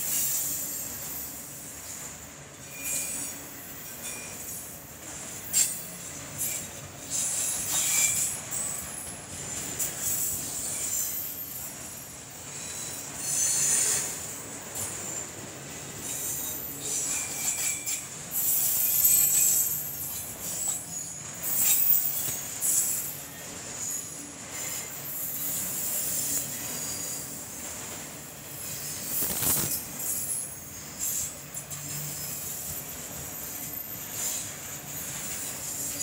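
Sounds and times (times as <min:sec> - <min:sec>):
train wheels rolling on track: 0:00.0 - 0:36.0
wheel flanges squealing: 0:02.6 - 0:04.7, 0:05.3 - 0:27.7, 0:28.6 - 0:36.0.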